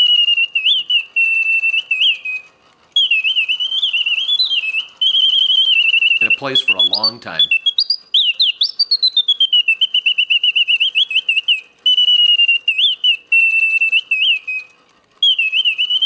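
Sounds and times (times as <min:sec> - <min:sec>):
mechanical bird song whistle: 0:00.0 - 0:16.0.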